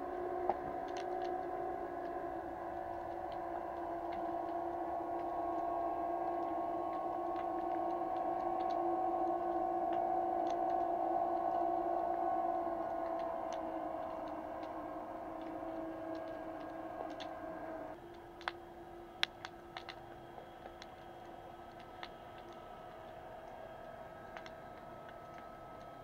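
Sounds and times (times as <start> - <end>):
underwater two-tone hum: 0.0 - 26.0
sharp underwater clicks: 0.1 - 17.4, 19.2 - 26.0.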